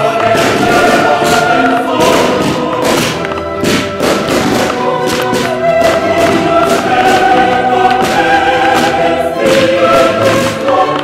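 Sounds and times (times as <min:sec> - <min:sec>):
choir holding long chords: 0:00.0 - 0:11.0.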